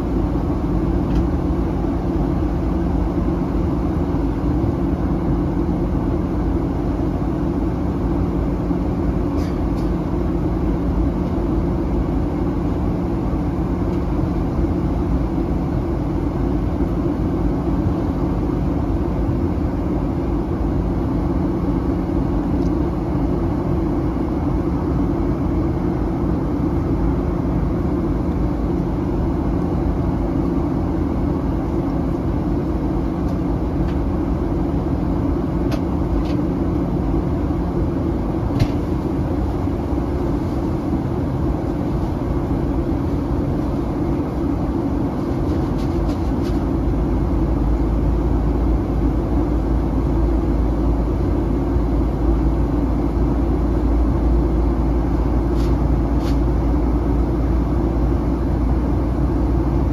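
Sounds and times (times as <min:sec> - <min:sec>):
airplane cabin drone: 0:00.0 - 0:59.9.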